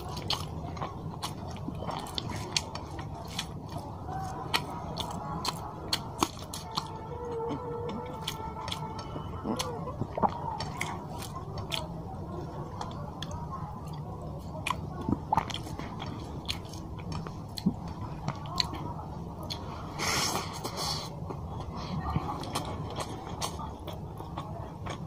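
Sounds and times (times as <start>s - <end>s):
man chewing food: 0.0s - 25.0s.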